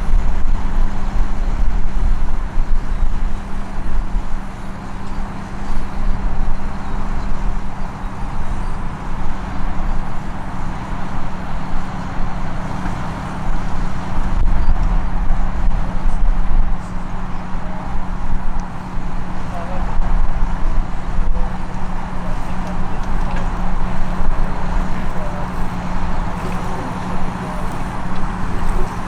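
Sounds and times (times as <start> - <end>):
tractor engine running: 2.8 - 29.0.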